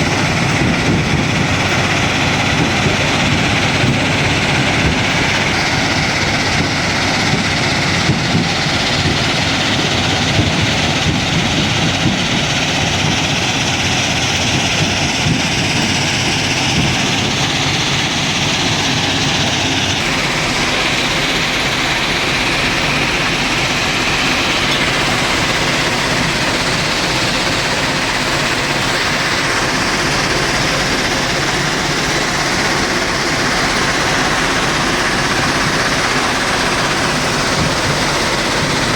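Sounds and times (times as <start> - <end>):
heavy machinery running: 0.0 - 38.9
smooth machine noise: 0.0 - 38.9.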